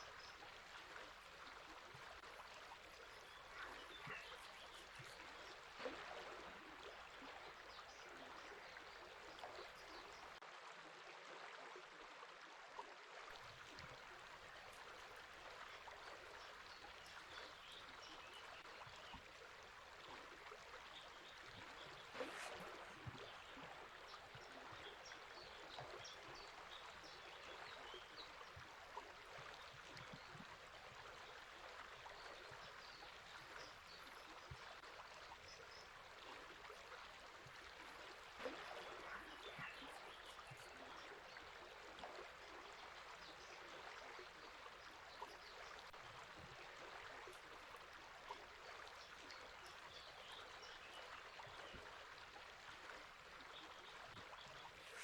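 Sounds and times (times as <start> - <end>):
river flowing: 0.0 - 10.4, 13.3 - 55.0
songbirds chirping: 0.0 - 10.4, 13.5 - 55.0.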